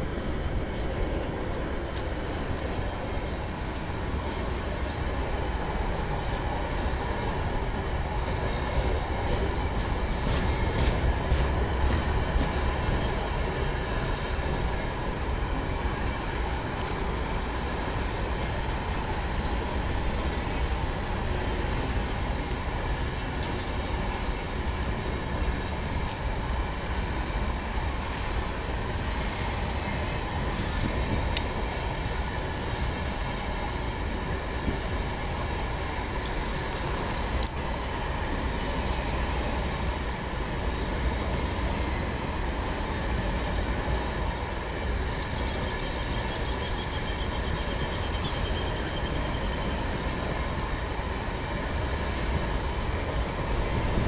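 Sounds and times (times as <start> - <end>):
train wheels rumbling on rails: 0.0 - 54.0
wheels clicking over rail joints: 0.0 - 54.0.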